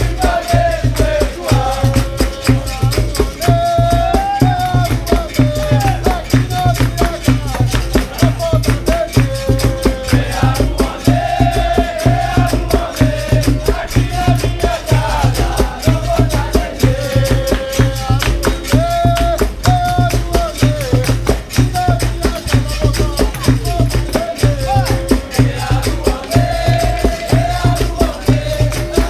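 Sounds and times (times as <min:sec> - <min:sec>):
group singing: 0:00.0 - 0:29.0
shaken rattles and hand drum: 0:00.0 - 0:29.0.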